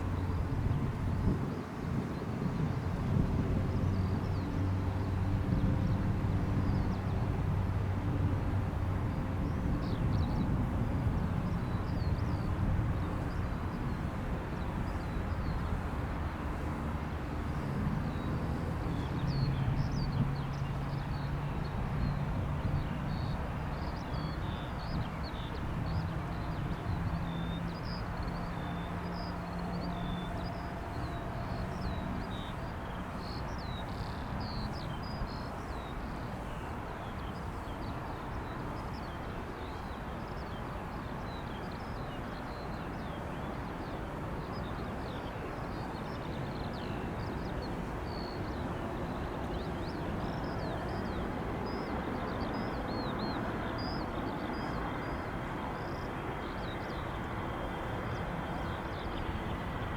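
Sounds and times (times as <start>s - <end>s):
distant jet engines rumbling: 0.0s - 59.9s.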